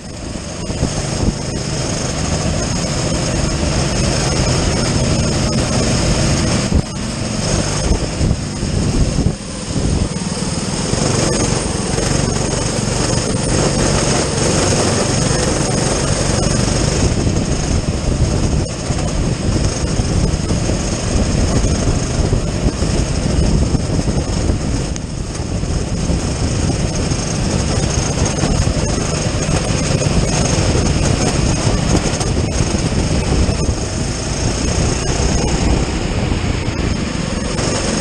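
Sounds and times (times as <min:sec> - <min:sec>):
go-kart engine racing: 0:00.0 - 0:38.0.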